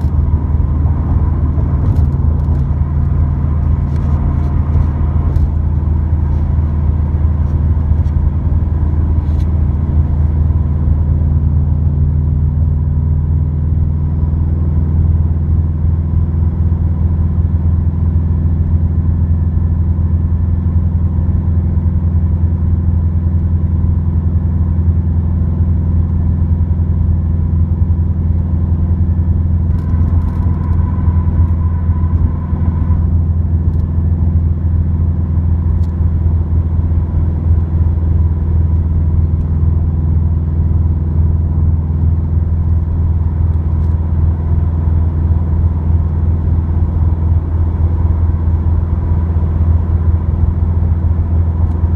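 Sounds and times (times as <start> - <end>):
car exhaust drone in cabin: 0.0 - 51.9.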